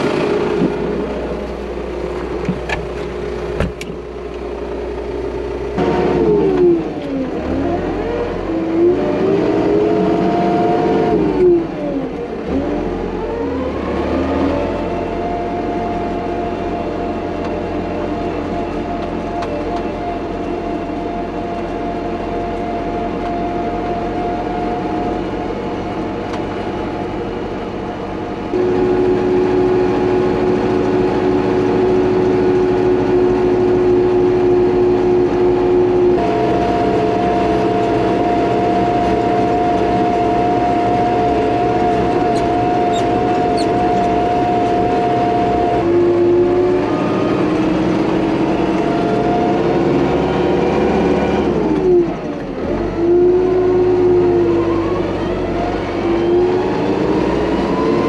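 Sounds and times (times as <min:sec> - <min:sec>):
tractor engine with whine: 0:00.0 - 0:58.0.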